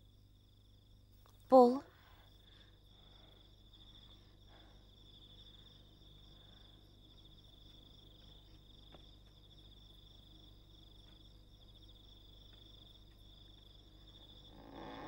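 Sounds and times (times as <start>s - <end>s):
crickets chirring: 0.0s - 1.2s, 2.0s - 15.0s.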